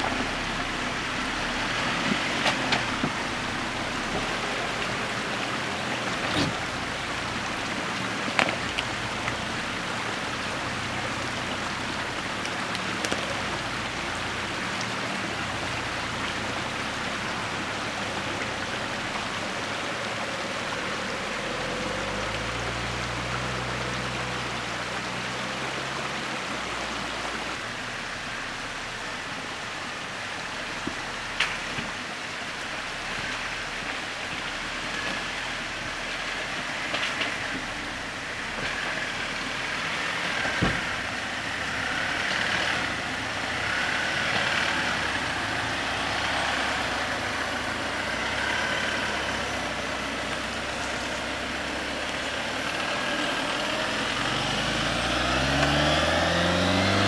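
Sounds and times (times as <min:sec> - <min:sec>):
low engine drone: 0:00.0 - 0:57.0
water rushing over rocks: 0:00.0 - 0:57.0.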